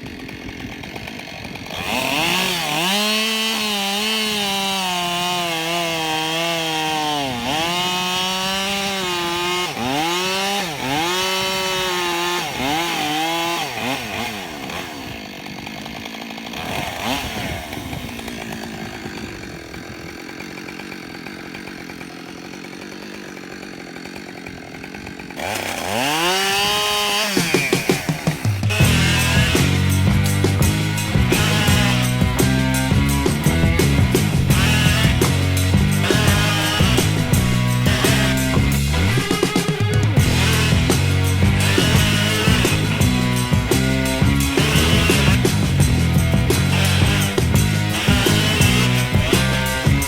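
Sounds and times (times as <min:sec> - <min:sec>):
chainsaw cutting wood: 0:00.0 - 0:50.0.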